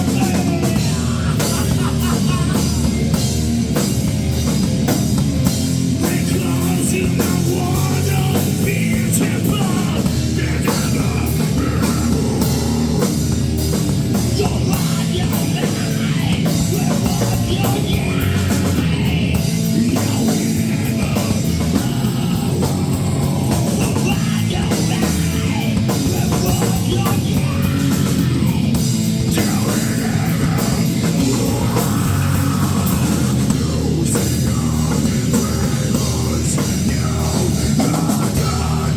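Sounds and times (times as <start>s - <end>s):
drum kit beat: 0.0s - 38.9s
rock band playing live: 0.0s - 38.9s.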